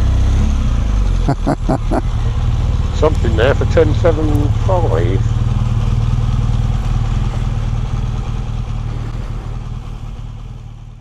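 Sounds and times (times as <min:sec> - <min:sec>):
motorcycle engine running: 0:02.0 - 0:11.0.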